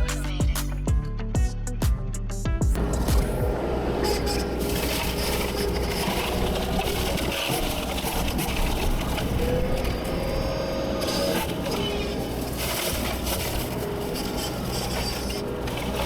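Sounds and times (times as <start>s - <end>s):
brush and wood cracking: 2.8s - 16.0s
heavy machine engine running: 2.8s - 16.0s.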